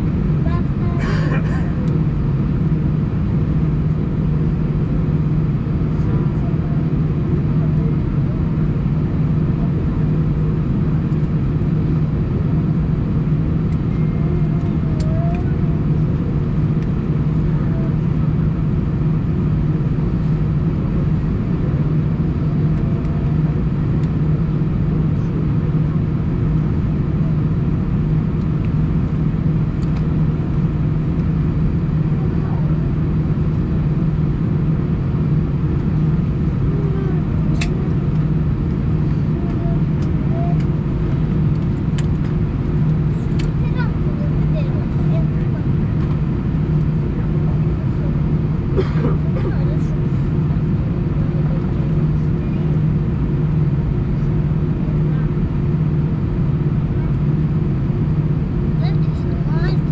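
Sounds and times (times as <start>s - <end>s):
aircraft engines idling: 0.0s - 59.9s.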